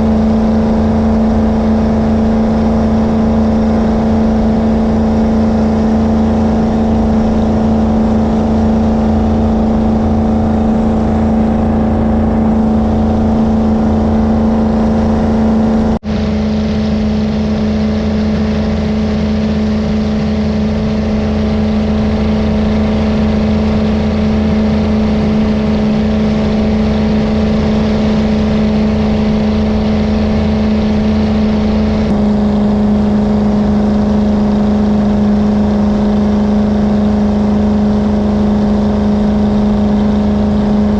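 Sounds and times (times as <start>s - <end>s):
boat engine drone: 0.0s - 40.9s.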